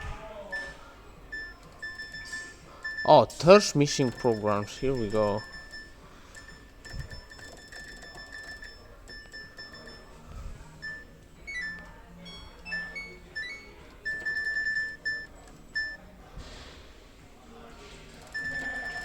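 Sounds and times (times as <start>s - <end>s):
electronic beeps: 0.4s - 16.1s, 18.2s - 19.0s.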